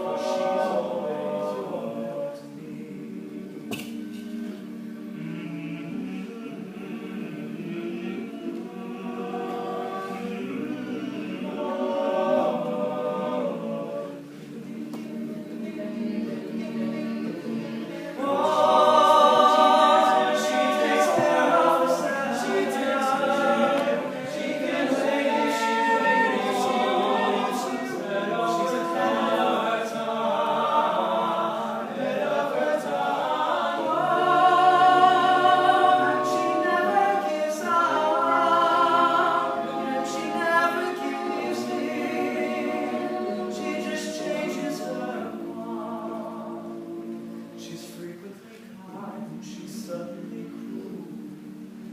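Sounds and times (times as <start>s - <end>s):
male a cappella group singing: 0.0s - 51.9s.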